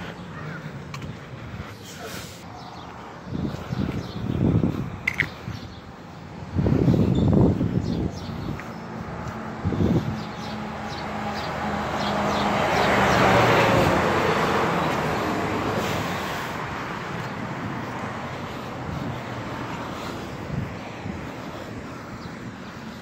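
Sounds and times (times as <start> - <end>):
vehicle passing: 0.0 - 23.0.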